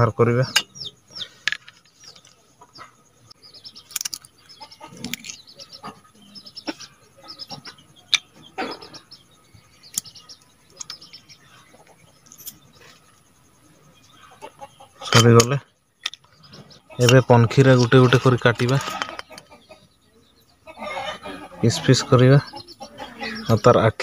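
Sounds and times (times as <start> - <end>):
chickens clucking: 0.0 - 24.0
small birds chirping: 0.0 - 24.0.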